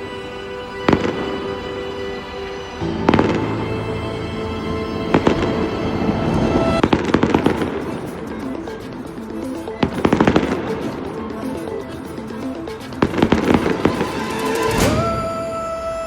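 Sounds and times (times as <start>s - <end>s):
music playing: 0.0s - 16.0s.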